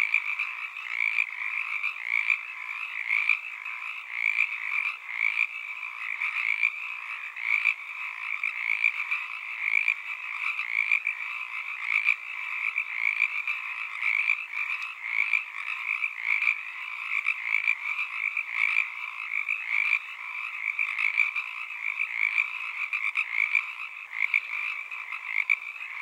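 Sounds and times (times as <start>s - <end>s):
chorus of frogs croaking: 0.0s - 26.0s.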